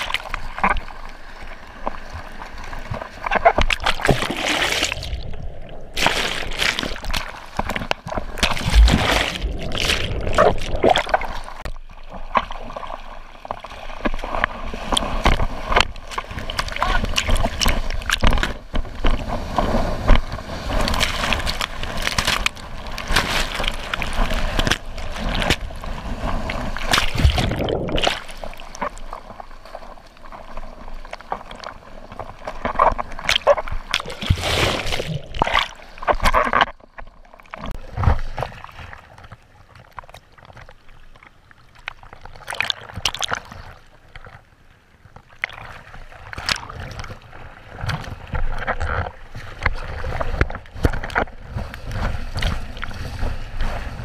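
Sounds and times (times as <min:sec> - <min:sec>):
sea water splashing and rushing: 0:00.0 - 0:44.4, 0:45.2 - 0:54.0.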